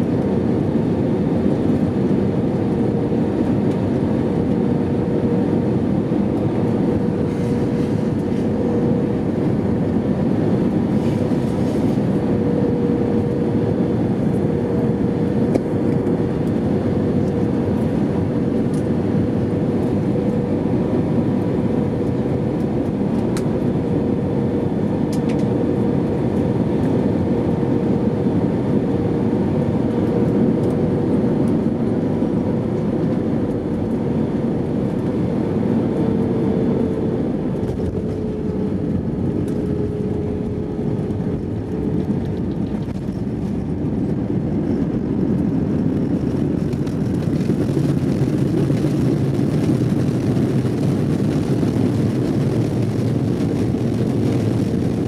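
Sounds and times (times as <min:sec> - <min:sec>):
jet engine and airflow drone: 0:00.0 - 0:55.0.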